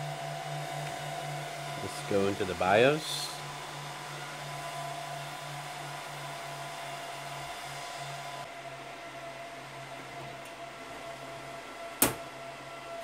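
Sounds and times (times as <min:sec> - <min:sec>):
server cooling fans rushing: 0:00.0 - 0:13.0.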